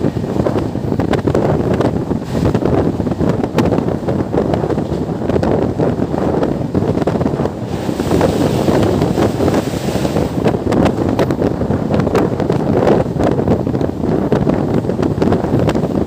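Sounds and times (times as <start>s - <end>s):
train coach rumble: 0.0s - 16.0s
wind buffeting microphone: 0.0s - 16.0s.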